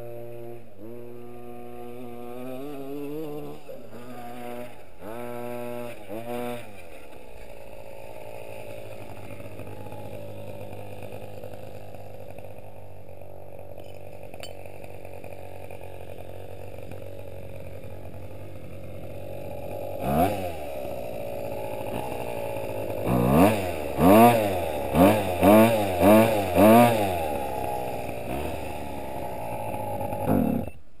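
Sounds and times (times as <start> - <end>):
small two-stroke engine revving: 0.0 - 31.0.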